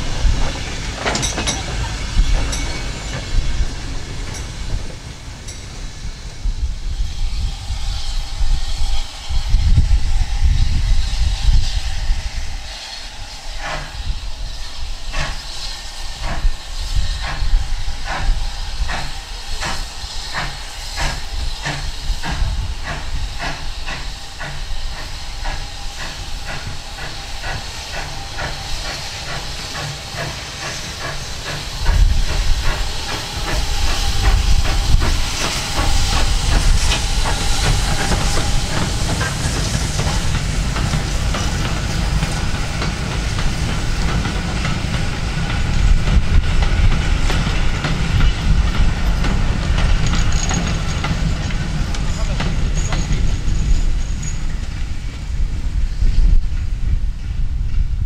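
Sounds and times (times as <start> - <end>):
steam hiss: 0.0 - 58.0
steam locomotive exhaust beats: 0.0 - 58.0.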